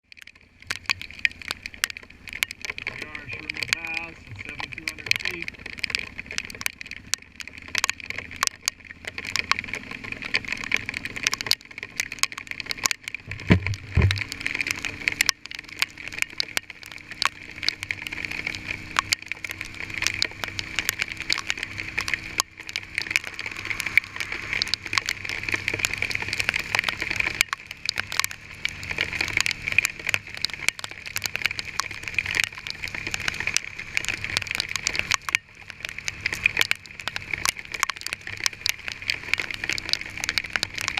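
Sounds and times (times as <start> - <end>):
hail clicking and knocking: 0.0 - 40.9.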